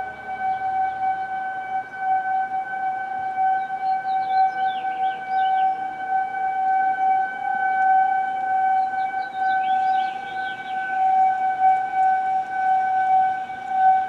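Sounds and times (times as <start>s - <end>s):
warning siren steady tone: 0.0s - 14.0s.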